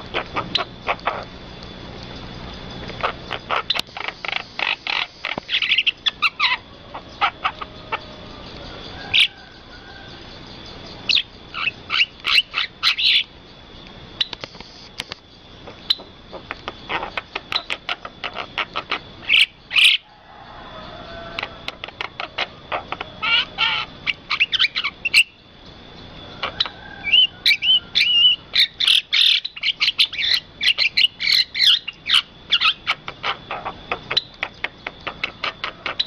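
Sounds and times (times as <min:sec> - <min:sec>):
starling chirping and whistling: 0:00.0 - 0:01.3, 0:02.1 - 0:36.0.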